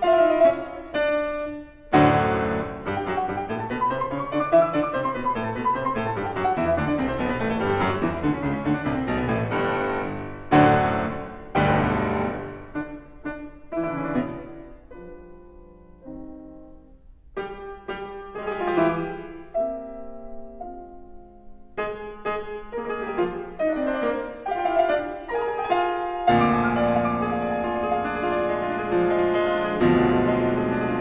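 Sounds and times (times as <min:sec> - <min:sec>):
solo classical piano: 0:00.0 - 0:31.0.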